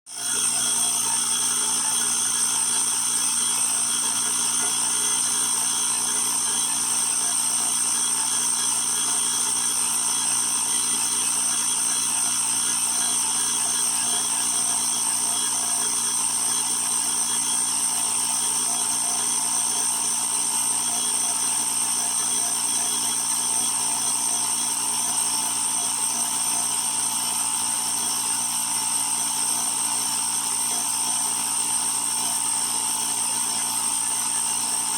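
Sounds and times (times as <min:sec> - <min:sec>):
air compressor motor whining: 0:00.1 - 0:34.9.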